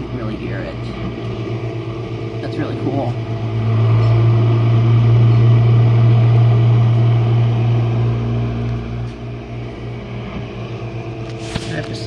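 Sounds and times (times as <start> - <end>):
dishwasher motor humming: 0.0 - 12.0.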